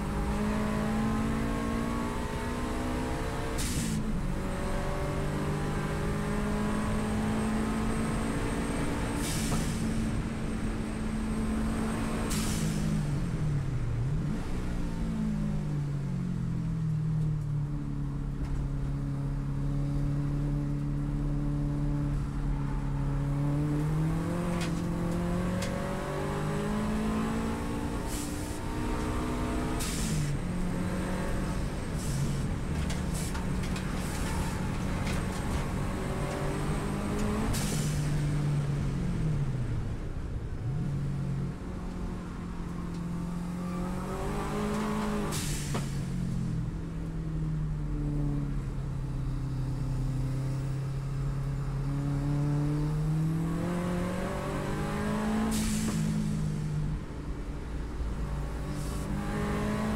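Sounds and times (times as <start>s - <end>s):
car engine under hard driving: 0.0s - 59.9s.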